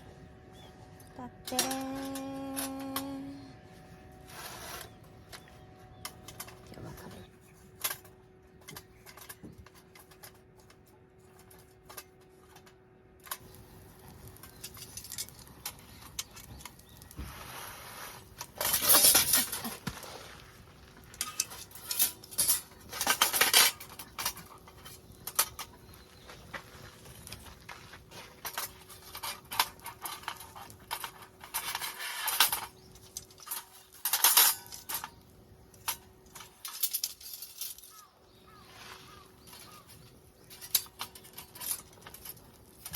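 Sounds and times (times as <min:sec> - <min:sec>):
metal camp gear clinking: 0:04.2 - 0:17.2, 0:18.2 - 0:42.9.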